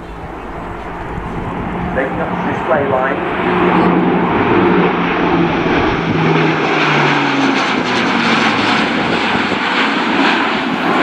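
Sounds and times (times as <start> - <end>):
turboprop aircraft flying past: 0.0 - 11.0.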